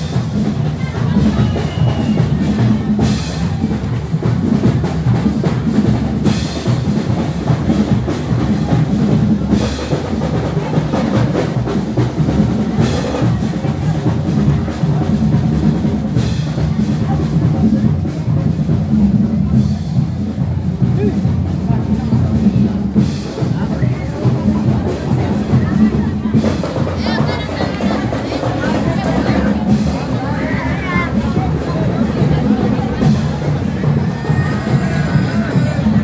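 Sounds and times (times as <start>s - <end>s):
bass drum: 0.0s - 36.0s
marching drums: 0.0s - 36.0s.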